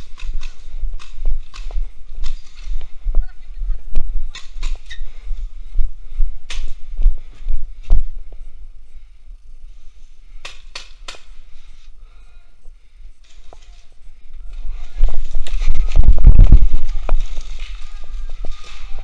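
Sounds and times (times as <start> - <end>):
low microphone rumble: 0.0 - 10.3, 14.0 - 19.0.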